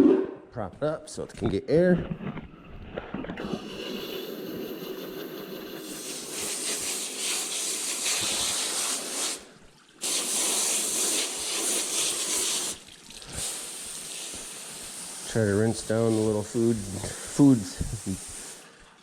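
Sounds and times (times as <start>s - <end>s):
water hose spraying: 3.4s - 18.8s.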